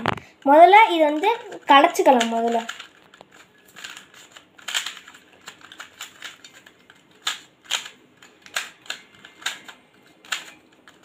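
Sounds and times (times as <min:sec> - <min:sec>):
puzzle pieces clicking: 0:00.5 - 0:11.0.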